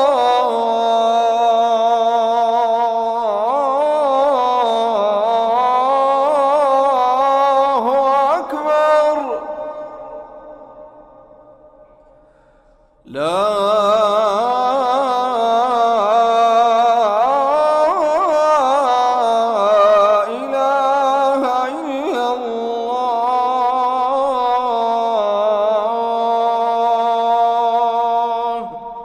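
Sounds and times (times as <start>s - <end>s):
man chanting call to prayer: 0.0s - 11.5s, 13.1s - 29.0s.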